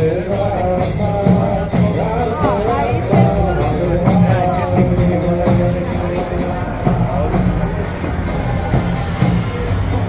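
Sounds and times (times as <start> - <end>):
held musical notes: 0.0 - 10.0
jingling bells on a beat: 0.0 - 10.0.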